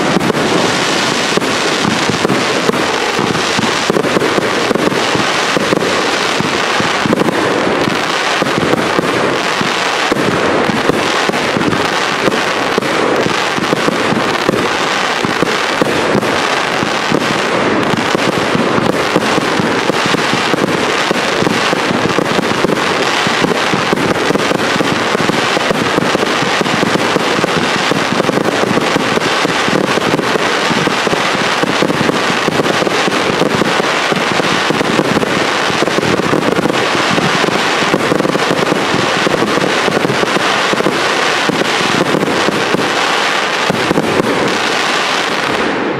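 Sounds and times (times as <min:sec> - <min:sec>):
fireworks firing in rapid barrage: 0:00.0 - 0:45.9.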